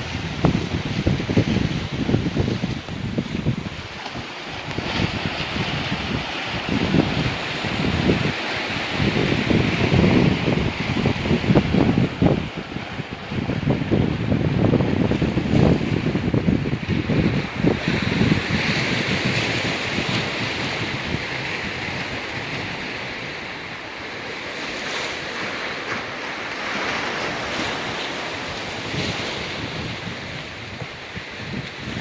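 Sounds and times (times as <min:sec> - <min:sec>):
waves washing onto rocky beach: 0:00.0 - 0:32.0
wind buffeting microphone: 0:00.0 - 0:32.0.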